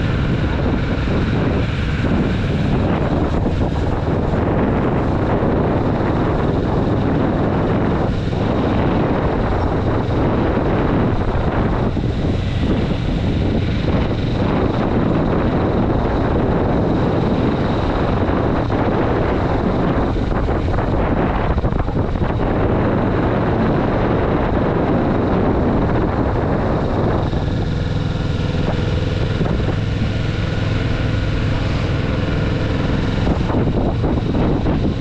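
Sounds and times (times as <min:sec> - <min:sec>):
motorcycle engine running: 0:00.0 - 0:35.0
wind rush on microphone: 0:00.0 - 0:35.0.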